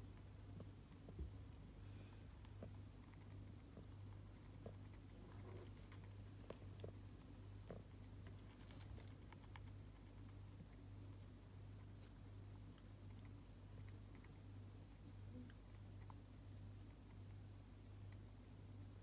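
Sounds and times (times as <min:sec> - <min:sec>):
hamsters nibbling: 0:00.0 - 0:19.0
steady low hum: 0:00.0 - 0:19.0.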